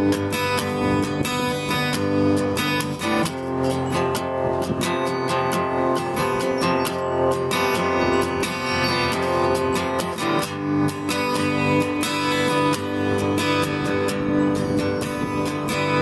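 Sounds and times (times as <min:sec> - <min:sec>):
solo guitar playing: 0:00.0 - 0:16.0.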